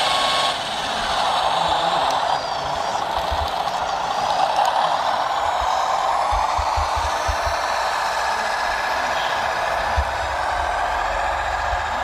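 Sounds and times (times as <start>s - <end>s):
toy truck motor: 0.0s - 12.0s.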